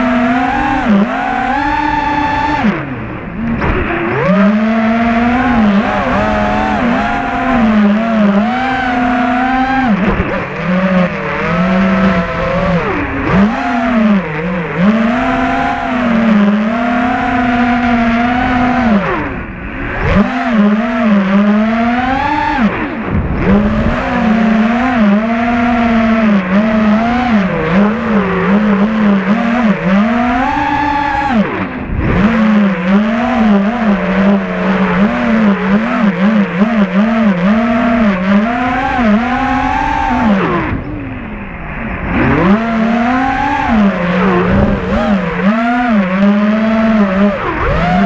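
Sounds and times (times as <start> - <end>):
quadcopter motors whining: 0.0 - 48.0.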